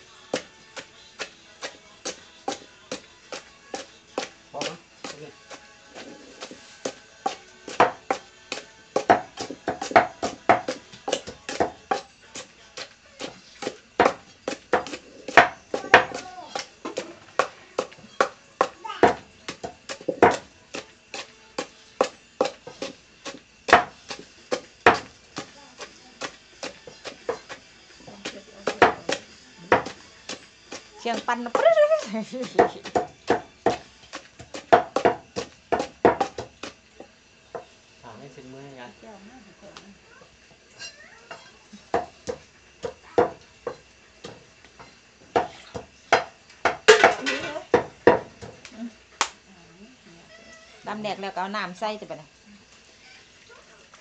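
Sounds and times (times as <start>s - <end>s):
pestle pounding in mortar: 0.3s - 37.8s, 41.9s - 48.6s.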